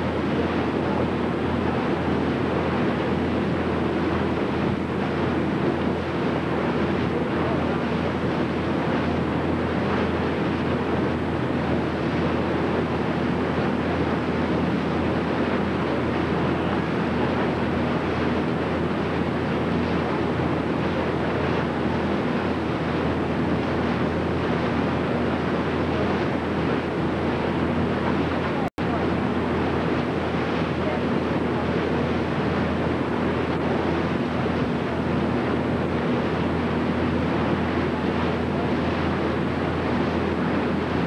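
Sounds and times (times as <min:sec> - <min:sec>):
boat engine drone: 0:00.0 - 0:41.0
water rushing past hull: 0:00.0 - 0:41.0.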